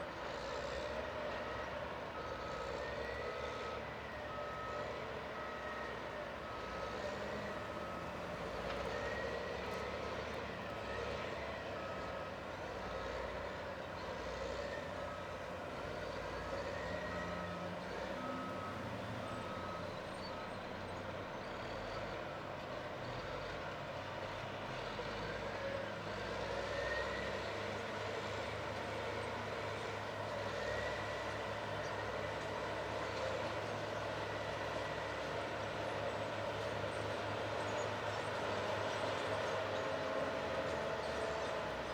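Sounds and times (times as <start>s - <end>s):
bulldozer diesel engine running: 0.1s - 41.9s.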